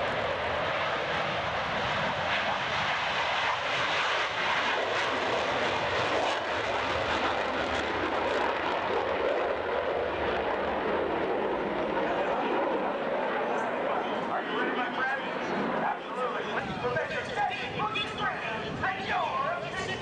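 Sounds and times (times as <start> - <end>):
jet engine at takeoff power: 0.0 - 20.0.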